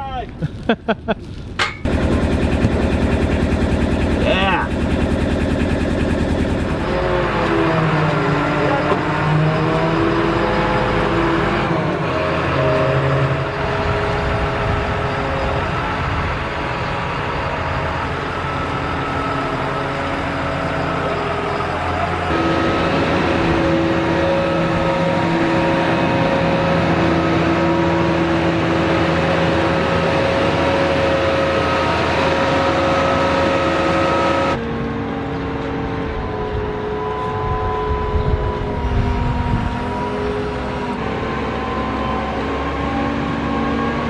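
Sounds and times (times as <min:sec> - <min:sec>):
engine running steadily: 0:01.3 - 0:44.0.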